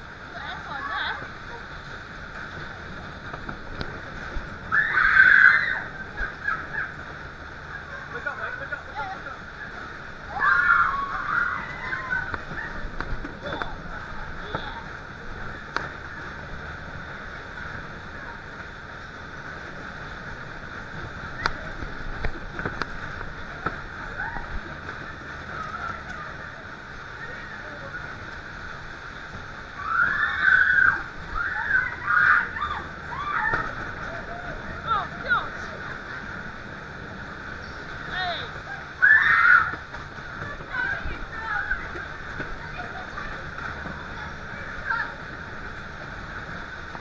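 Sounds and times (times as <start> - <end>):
fairground ride noise: 0.0 - 47.0.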